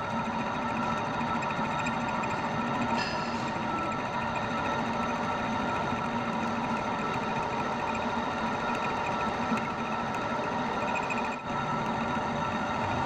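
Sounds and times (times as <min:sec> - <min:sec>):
metal lathe whirring: 0:00.0 - 0:13.0.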